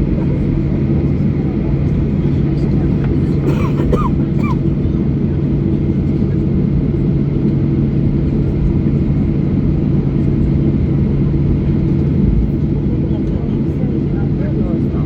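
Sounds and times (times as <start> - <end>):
airliner cabin rumble: 0.0 - 15.0
constant low hum: 0.0 - 15.0.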